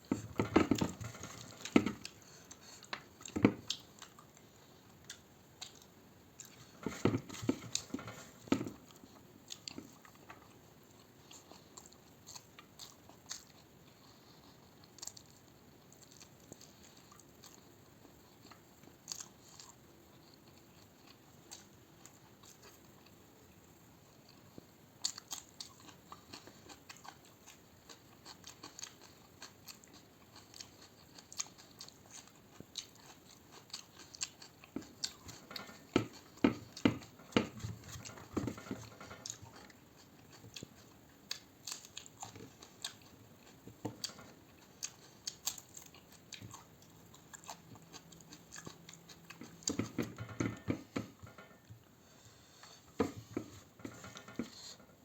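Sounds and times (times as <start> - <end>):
person chewing: 0.0 - 17.8, 18.4 - 22.8, 25.0 - 55.0.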